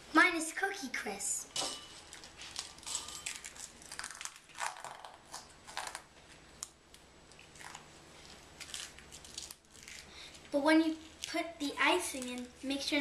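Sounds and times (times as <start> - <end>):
cereal crackling and crunching: 2.0 - 12.9.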